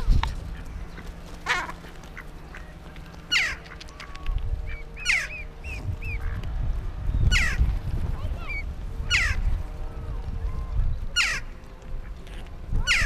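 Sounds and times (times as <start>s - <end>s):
wild birds calling: 0.0s - 10.1s, 10.7s - 13.0s
faint low hum: 0.0s - 13.0s.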